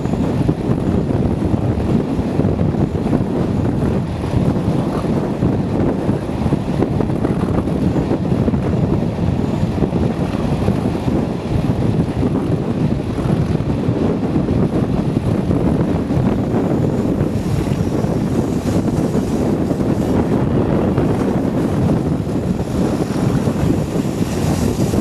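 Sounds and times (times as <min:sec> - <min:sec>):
train rumbling at speed: 0:00.0 - 0:25.0
wind buffeting microphone: 0:00.0 - 0:25.0.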